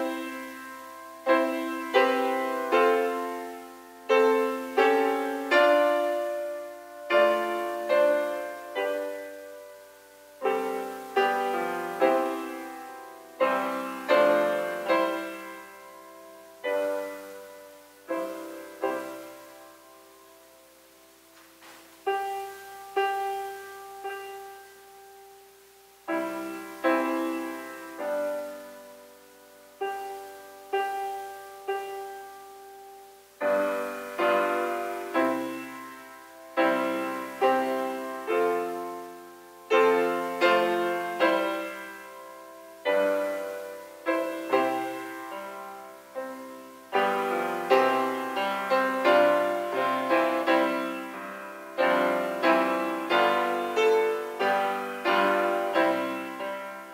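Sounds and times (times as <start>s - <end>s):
solo grand piano: 0.0s - 56.9s.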